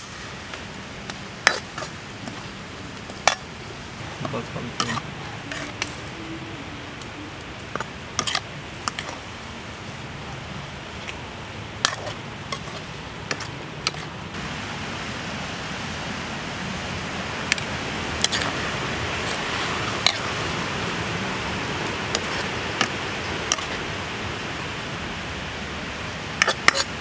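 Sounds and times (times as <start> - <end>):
liquid sizzling in a wok: 0.0 - 6.2, 7.5 - 10.0, 11.8 - 16.0, 16.7 - 27.0.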